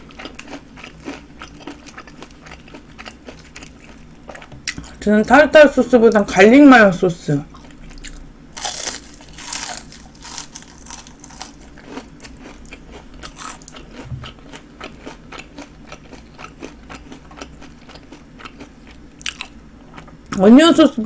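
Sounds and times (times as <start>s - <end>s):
crisp chewing crunches: 0.0s - 4.9s, 7.5s - 20.2s.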